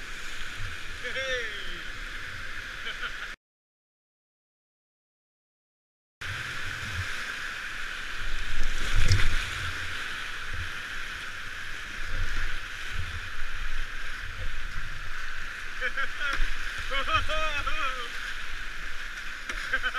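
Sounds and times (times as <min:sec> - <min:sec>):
river water rushing and gurgling: 0:00.0 - 0:03.4, 0:06.2 - 0:19.9.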